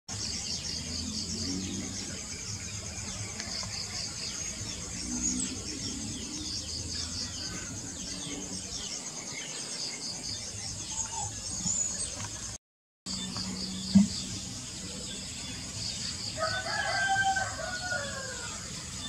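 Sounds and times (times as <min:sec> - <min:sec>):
pulsing insect chorus: 0:00.1 - 0:19.0.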